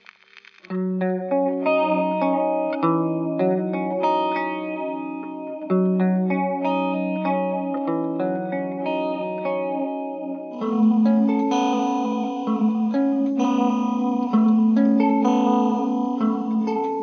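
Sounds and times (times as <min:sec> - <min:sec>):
electric guitar chords with chorus: 0:00.7 - 0:17.0.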